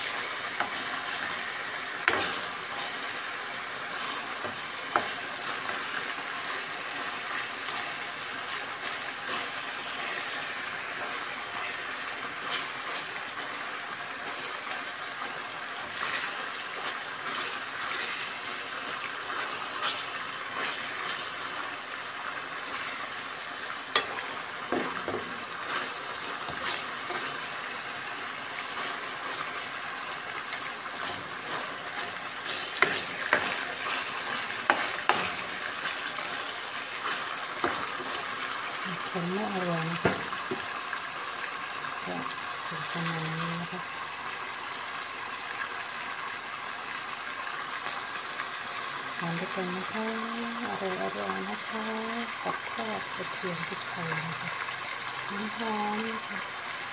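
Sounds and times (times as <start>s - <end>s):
liver sizzling in oil: 0.0s - 56.9s.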